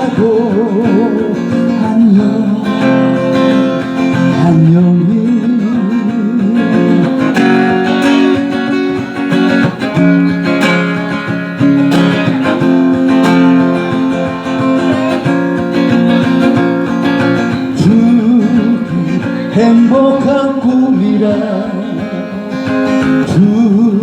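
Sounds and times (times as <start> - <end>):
acoustic guitar strumming chords: 0.0 - 24.0
person singing slow ballad: 0.0 - 24.0.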